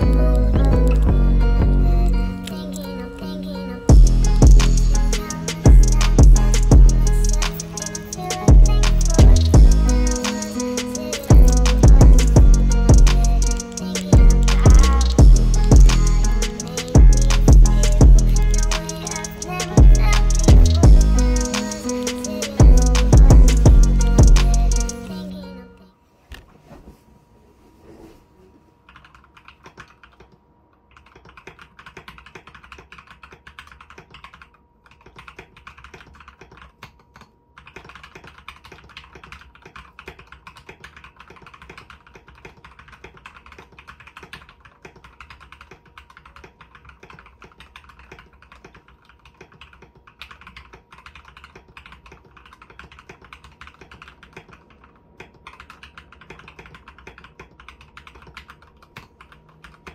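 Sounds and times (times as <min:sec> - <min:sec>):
mechanical keyboard typing: 0:04.5 - 0:25.0, 0:28.9 - 0:59.9.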